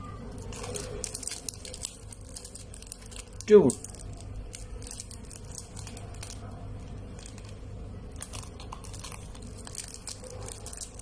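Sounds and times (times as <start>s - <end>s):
plastic wrapper crinkling: 0.2s - 11.0s.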